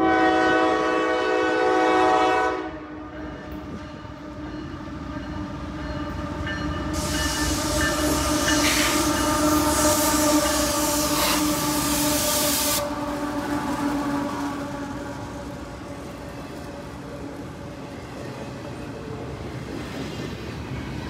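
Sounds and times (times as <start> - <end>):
diesel locomotives passing: 0.0 - 21.0
train wheel noise: 3.0 - 21.0.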